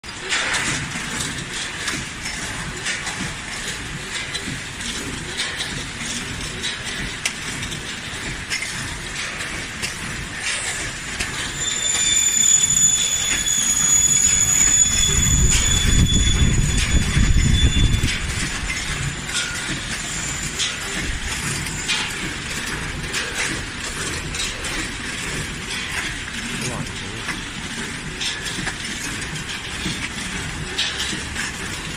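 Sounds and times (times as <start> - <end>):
packing machine clicking and clattering: 0.0 - 31.9
high machine whine: 0.2 - 31.9.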